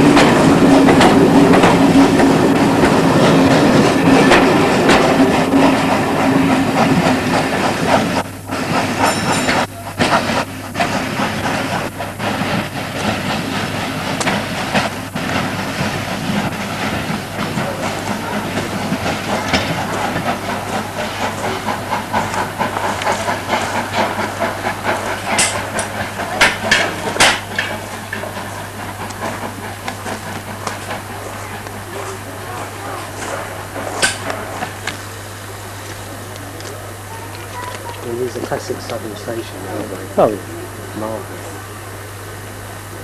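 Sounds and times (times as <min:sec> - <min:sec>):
wheels clattering over rail joints: 0:00.0 - 0:40.4
steam train hissing: 0:00.0 - 0:43.0.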